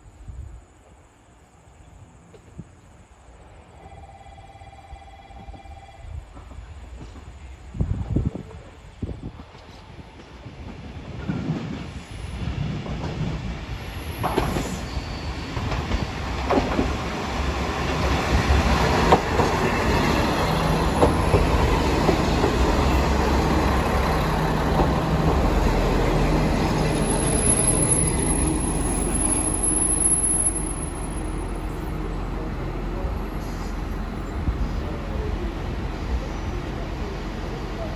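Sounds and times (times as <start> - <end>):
diesel railcar approaching: 0.0 - 37.9
rail clicks: 5.3 - 37.9.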